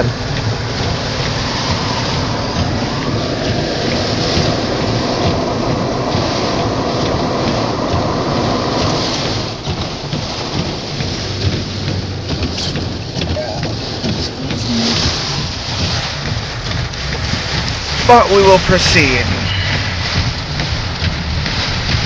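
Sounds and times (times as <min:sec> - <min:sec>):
car low rumble: 0:00.0 - 0:22.0
heavy rain on car roof: 0:00.0 - 0:22.0.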